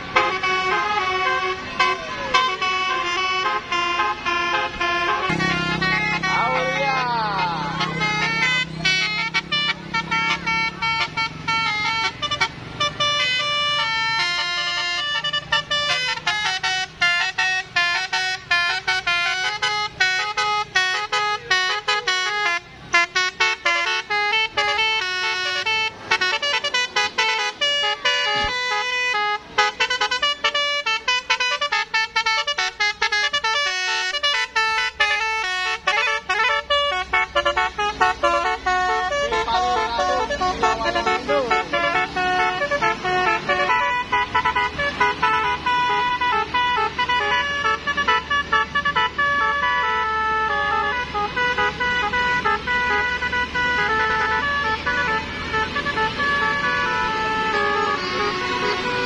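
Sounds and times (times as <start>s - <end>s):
multi-tone bus horn melody: 0.0s - 59.0s.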